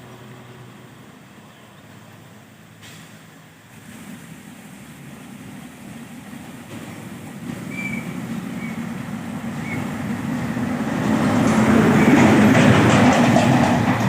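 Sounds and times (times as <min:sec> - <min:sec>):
diesel truck engine labouring: 0:00.0 - 0:14.0.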